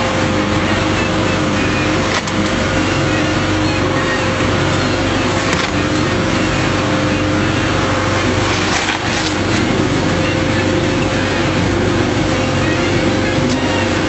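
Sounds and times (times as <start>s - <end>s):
boat motor drone: 0.0s - 14.0s.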